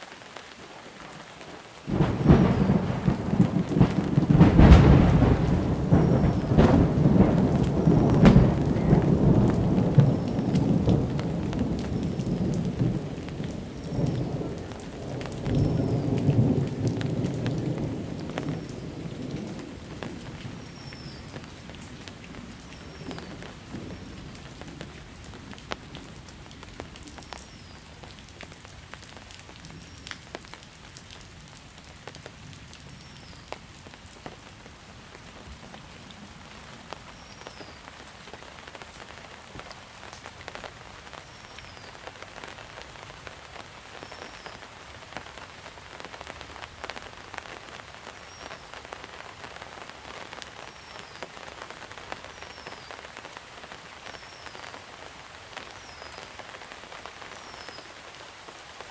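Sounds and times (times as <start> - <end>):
rain pattering and dripping: 0.0 - 58.9.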